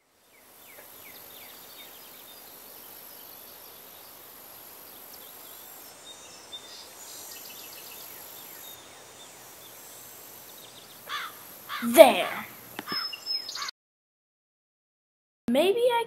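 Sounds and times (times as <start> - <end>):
steady hiss: 0.0 - 13.5
bird chirps: 0.3 - 13.7.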